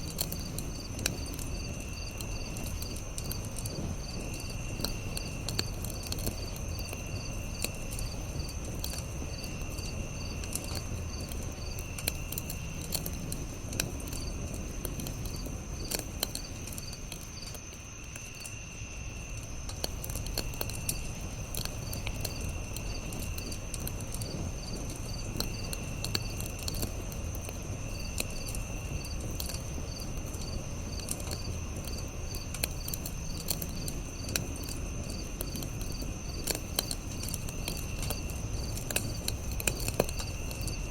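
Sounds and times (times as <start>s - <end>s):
campfire crackling and popping: 0.0s - 40.9s
insect lower chirp: 0.0s - 40.9s.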